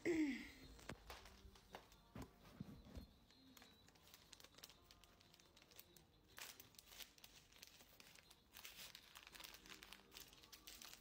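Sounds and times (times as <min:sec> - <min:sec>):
faint crinkling and rustling: 0:00.6 - 0:11.0.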